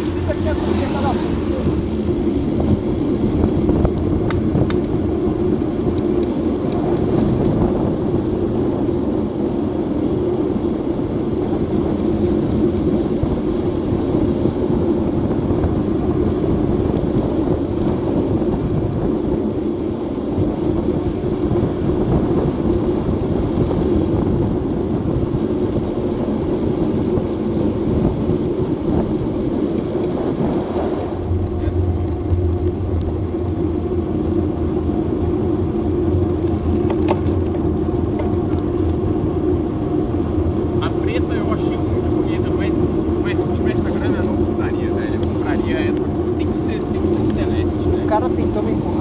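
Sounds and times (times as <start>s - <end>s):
wind rushing across microphone: 0.0s - 49.0s.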